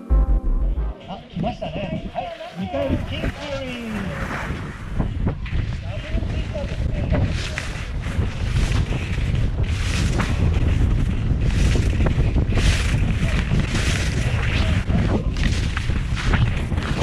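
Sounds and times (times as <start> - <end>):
wind rumbling on microphone: 1.1 - 17.0.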